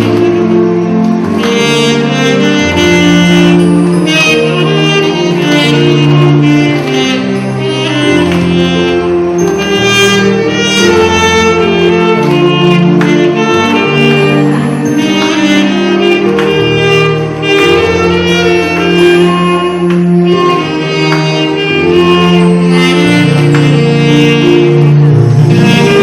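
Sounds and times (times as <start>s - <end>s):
bass line: 0.0s - 26.0s
saxophone melody: 0.0s - 26.0s
strings accompaniment: 0.0s - 26.0s.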